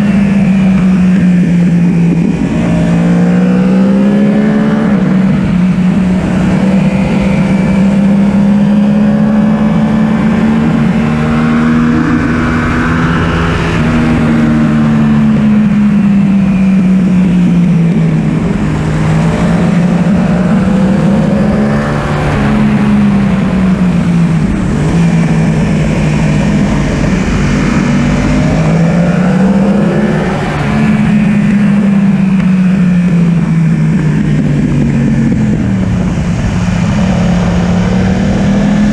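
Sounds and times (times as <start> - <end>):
motorcycle engine revving hard: 0.0 - 38.9.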